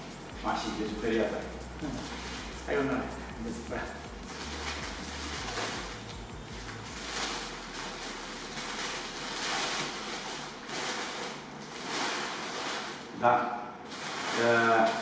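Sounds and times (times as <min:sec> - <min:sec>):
packing paper rustling and crinkling: 0:00.4 - 0:13.2, 0:13.8 - 0:15.0.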